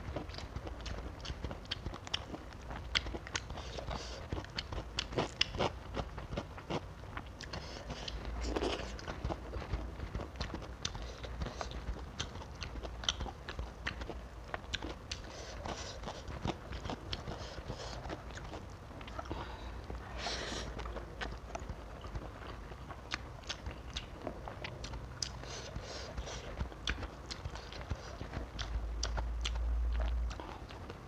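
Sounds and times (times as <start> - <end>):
close chewing: 0.0 - 31.0
mouth clicks and crunches: 0.0 - 31.0.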